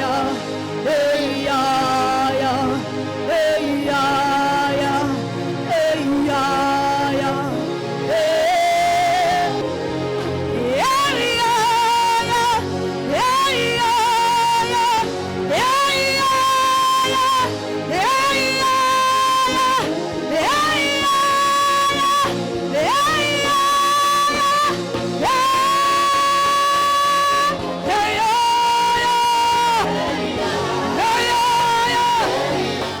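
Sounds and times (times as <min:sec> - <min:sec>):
person singing long wordless notes: 0:00.0 - 0:33.0
steady worship music backing: 0:00.0 - 0:33.0.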